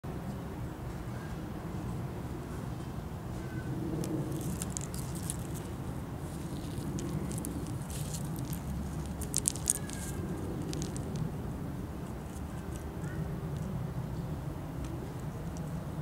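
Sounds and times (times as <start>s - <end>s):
low background rumble: 1.9s - 16.0s.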